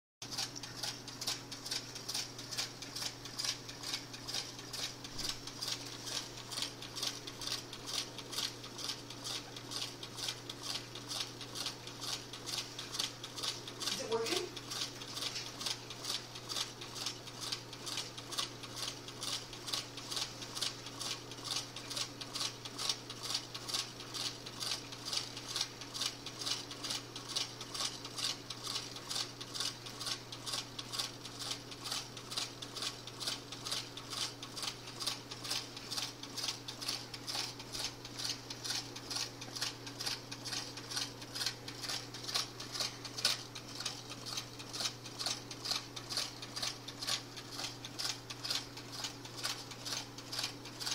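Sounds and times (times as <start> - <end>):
small engine ticking evenly: 0.2 - 50.9
steady low hum: 0.2 - 50.9.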